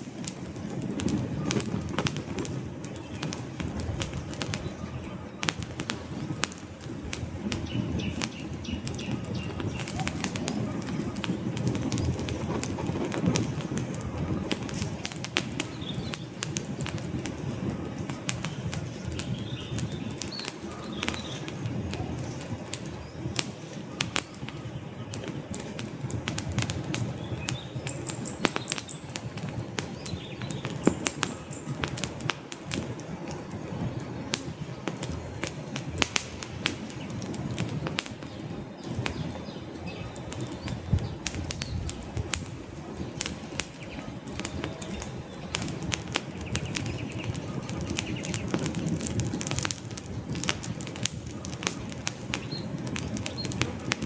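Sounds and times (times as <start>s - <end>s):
low rush of flame: 0.0s - 54.0s
wood fire crackling: 0.0s - 54.0s.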